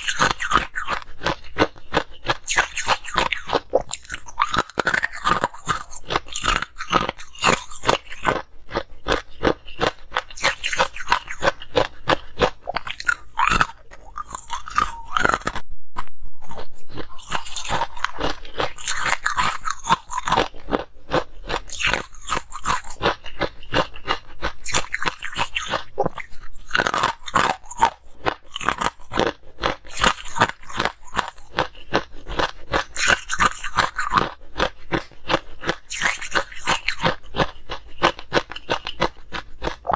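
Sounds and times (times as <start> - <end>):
ice cubes crunched by chewing: 0.0 - 15.6, 16.4 - 39.9.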